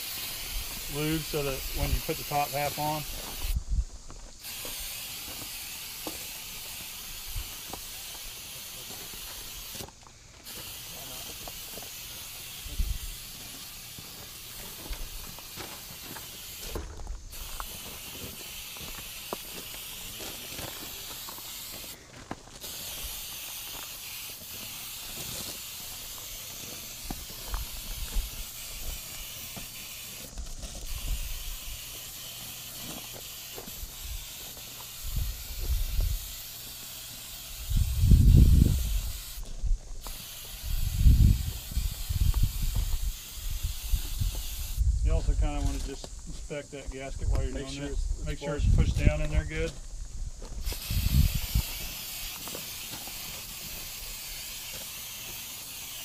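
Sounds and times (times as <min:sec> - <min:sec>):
aerosol can spraying: 0:00.0 - 0:03.6, 0:04.4 - 0:22.0, 0:22.6 - 0:46.0, 0:50.6 - 0:56.0.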